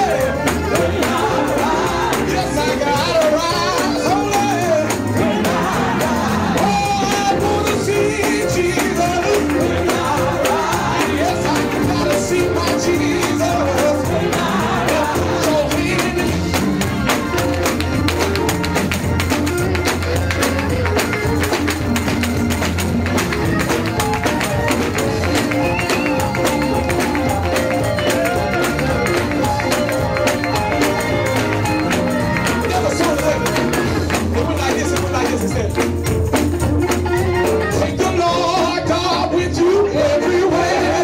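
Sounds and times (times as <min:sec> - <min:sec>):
bass line: 0:00.0 - 0:41.0
gospel band music: 0:00.0 - 0:41.0
rapid tambourine beat: 0:00.0 - 0:41.0.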